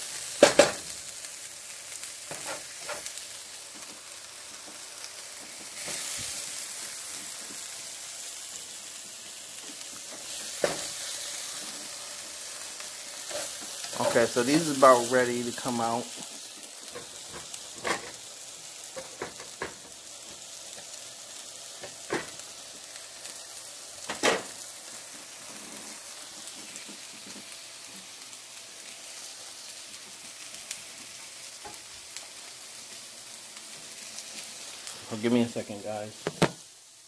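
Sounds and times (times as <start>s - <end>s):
peppers sizzling in a frying pan: 0.0s - 37.0s.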